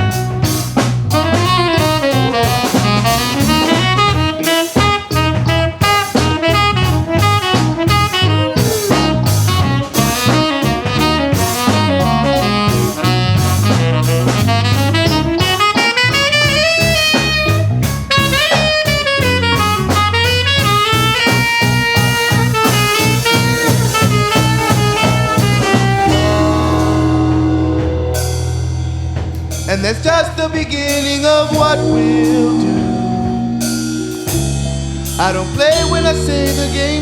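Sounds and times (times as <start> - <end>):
saxophone solo: 0.0 - 28.7, 31.2 - 35.0
bass: 0.0 - 37.0
drum kit: 0.0 - 37.0.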